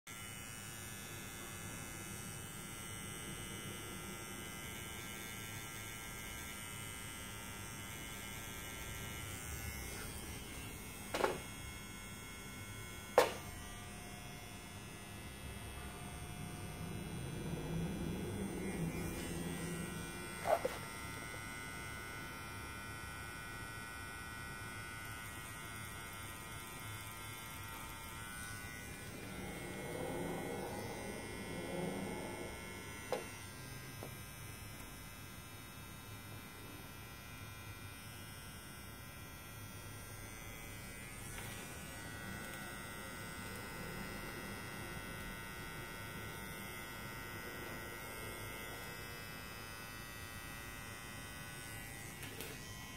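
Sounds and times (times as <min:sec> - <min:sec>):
tattoo pen motor buzzing: 0:00.1 - 0:52.9.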